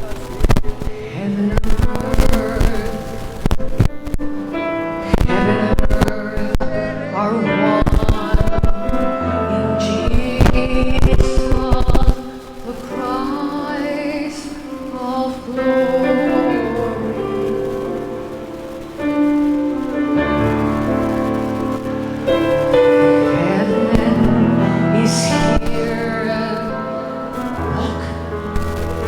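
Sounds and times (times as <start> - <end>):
person singing: 0.0 - 29.0
slow worship music: 0.0 - 29.0.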